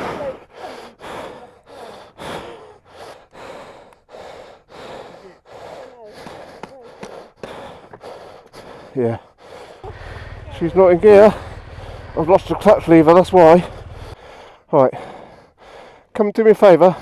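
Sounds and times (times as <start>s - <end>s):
person panting heavily: 0.0s - 16.2s.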